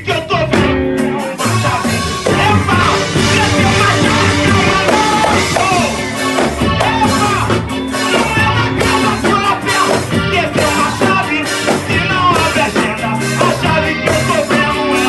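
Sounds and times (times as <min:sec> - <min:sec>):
band playing song with steady beat: 0:00.0 - 0:15.0.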